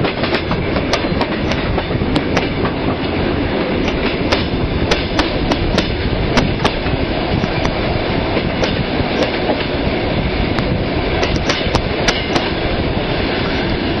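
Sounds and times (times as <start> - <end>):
train wheels clattering over rails: 0.0 - 14.0.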